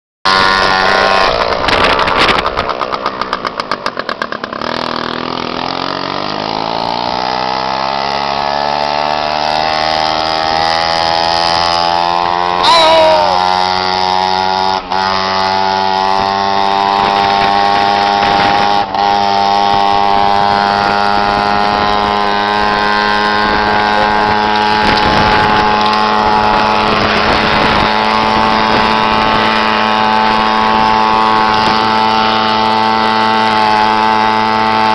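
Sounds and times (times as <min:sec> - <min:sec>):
moped engine buzzing: 0:00.3 - 0:34.9.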